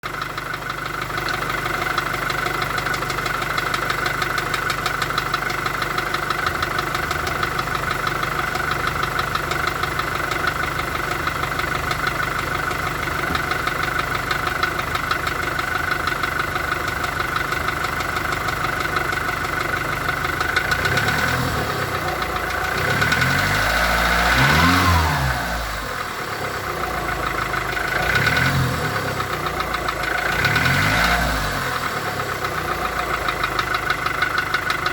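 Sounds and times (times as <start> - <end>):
car engine idling and revving: 0.0 - 34.9
engine knock ticking: 0.0 - 34.9.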